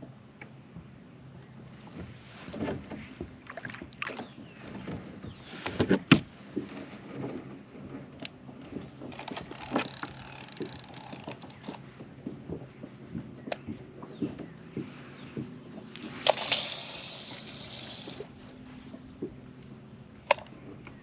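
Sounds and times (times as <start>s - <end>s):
gear knocking on plastic hull: 1.9s - 19.6s.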